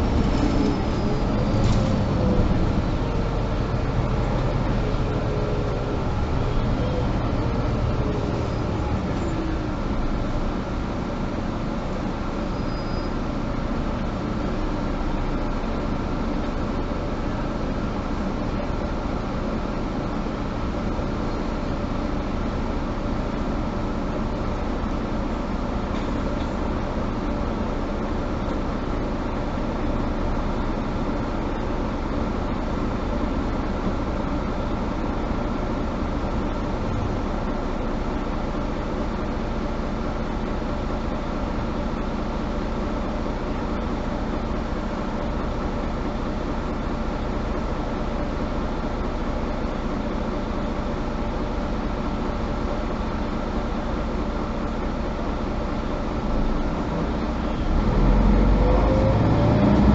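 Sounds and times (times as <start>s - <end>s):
bus engine drone: 0.0s - 59.9s
road and running noise: 0.0s - 59.9s.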